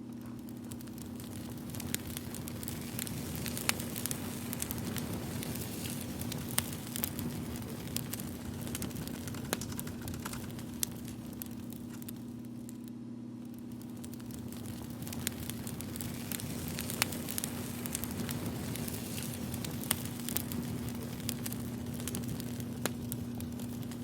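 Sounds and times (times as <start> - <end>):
steady low hum: 0.0 - 24.0
wood fire crackling: 0.0 - 24.0.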